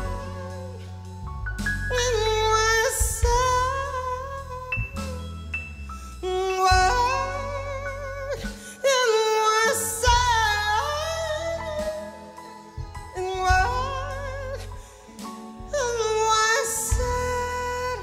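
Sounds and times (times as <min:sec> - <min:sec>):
woman singing soul-blues ballad: 0:00.0 - 0:05.6, 0:06.2 - 0:18.0
band with bass drums and organ: 0:00.0 - 0:08.8, 0:09.6 - 0:18.0.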